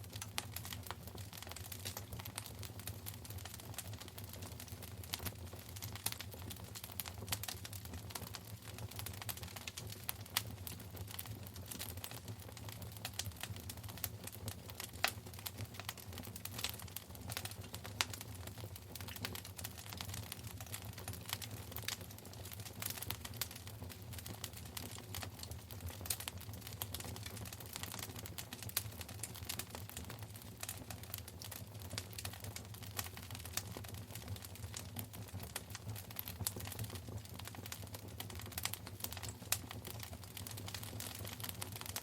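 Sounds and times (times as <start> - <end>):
low steady rumble of fire: 0.0 - 42.0
wood fire crackling and popping: 0.0 - 42.0.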